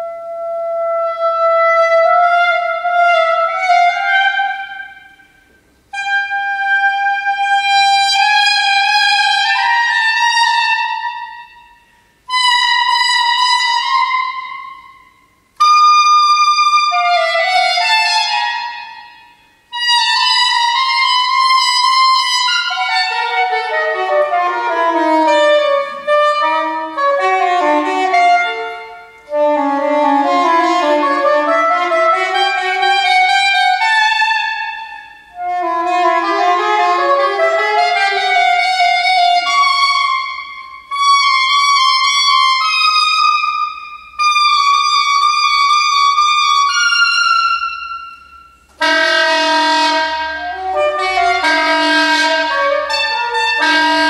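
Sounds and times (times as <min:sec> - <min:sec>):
solo saxophone: 0:00.0 - 0:11.6, 0:12.2 - 0:14.5, 0:15.5 - 0:46.8, 0:48.4 - 0:54.0.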